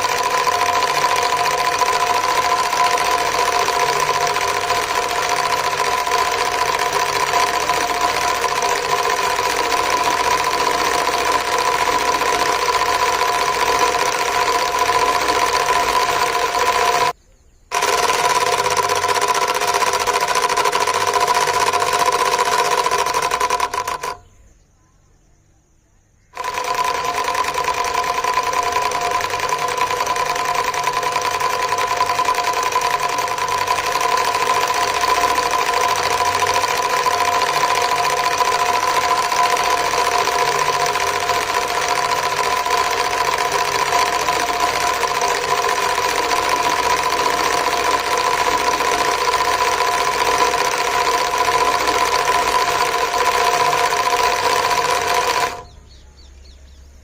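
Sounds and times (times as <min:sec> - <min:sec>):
small engine clattering with whine: 0:00.0 - 0:24.5, 0:26.3 - 0:57.0.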